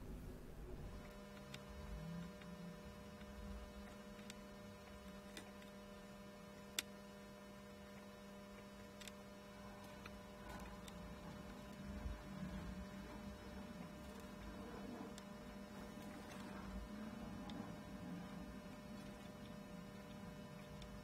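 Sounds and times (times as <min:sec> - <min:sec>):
faint electrical hum: 0:00.0 - 0:21.0
small sharp ticks: 0:01.0 - 0:07.1, 0:07.8 - 0:21.0.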